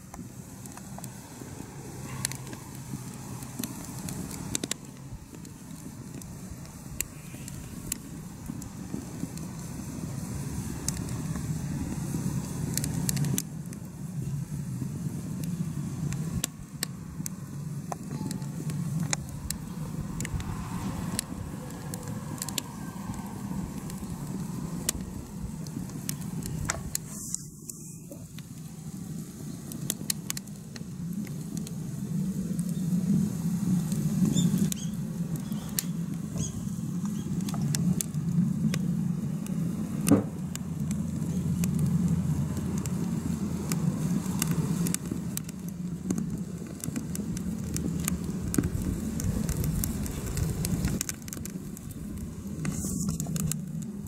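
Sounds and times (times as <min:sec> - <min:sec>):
fire popping: 0:00.0 - 0:54.0
steady low rumble: 0:00.0 - 0:54.0
wood fire crackling: 0:00.0 - 0:54.0.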